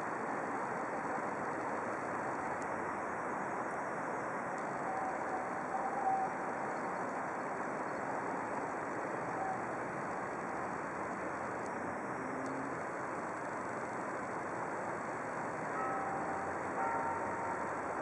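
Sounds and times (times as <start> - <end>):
outdoor background rush: 0.0 - 18.0.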